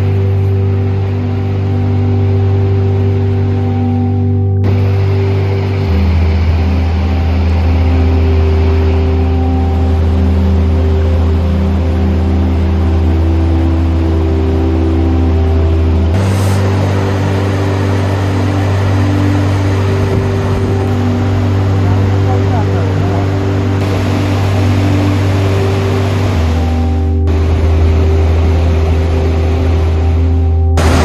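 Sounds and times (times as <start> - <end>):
constant rushing noise: 0.0 - 31.0
vehicle engine drone: 0.0 - 31.0.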